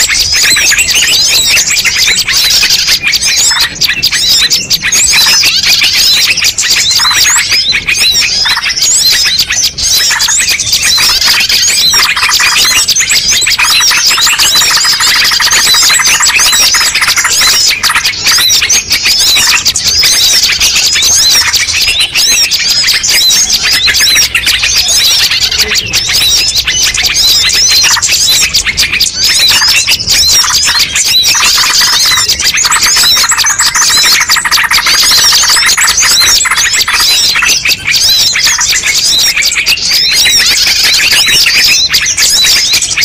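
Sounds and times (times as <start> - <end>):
bird repeating lower notes: 0.0 - 43.0
songbirds chirping and trilling: 0.0 - 43.0.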